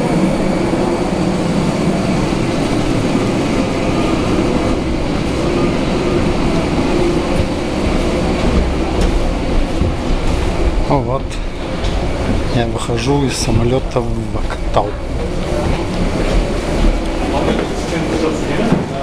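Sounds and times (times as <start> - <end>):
machinery rumble and hiss: 0.0 - 19.0.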